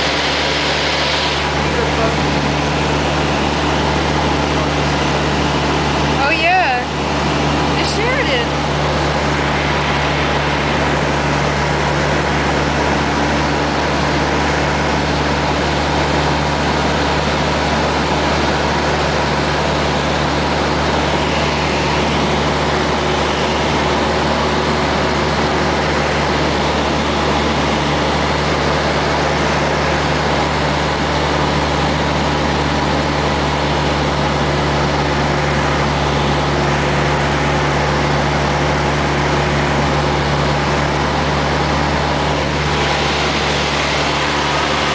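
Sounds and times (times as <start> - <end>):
aircraft engine droning in cabin: 0.0 - 44.9.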